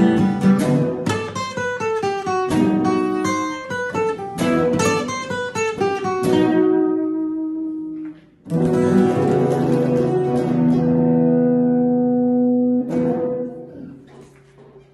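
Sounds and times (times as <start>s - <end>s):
acoustic guitar: 0.0s - 14.9s.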